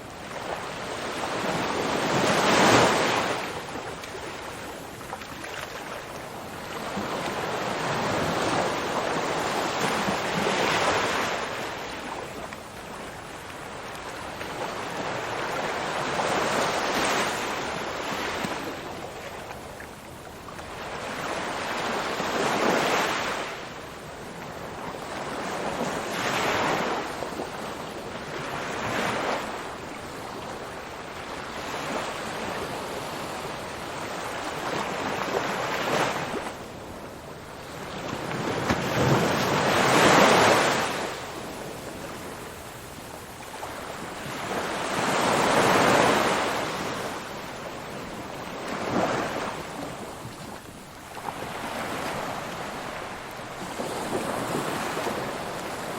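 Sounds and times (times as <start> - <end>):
ocean waves breaking on shore: 0.0 - 55.9.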